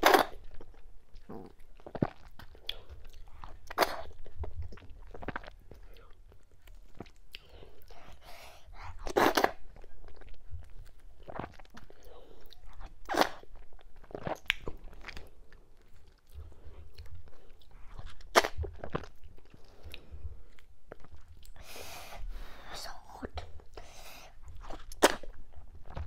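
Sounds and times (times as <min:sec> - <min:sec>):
wet chewing and mouth smacks: 0:00.0 - 0:21.7.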